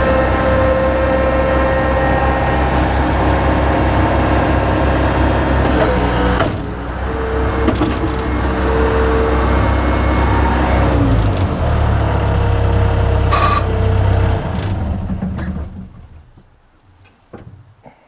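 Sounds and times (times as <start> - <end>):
skid steer engine running: 0.0 - 16.2.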